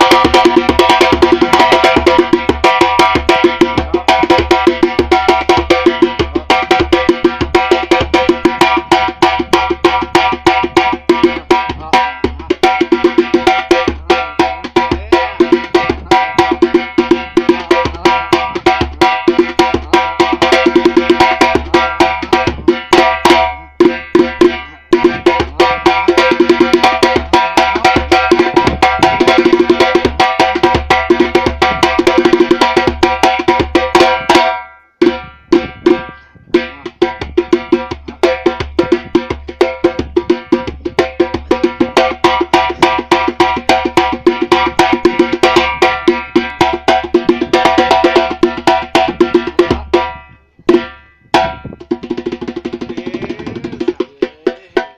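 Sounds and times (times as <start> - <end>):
fast drum percussion: 0.0 - 54.9.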